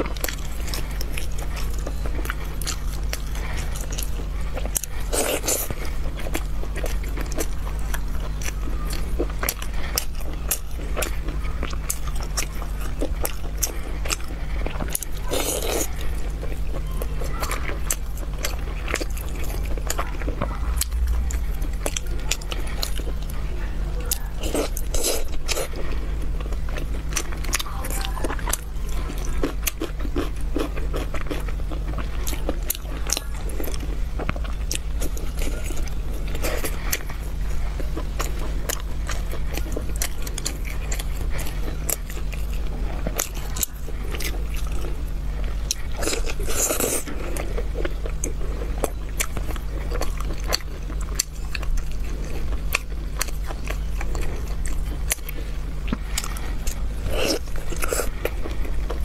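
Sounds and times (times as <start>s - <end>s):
person chewing crunchy food: 0.0s - 59.0s
steady low hum: 0.0s - 59.0s.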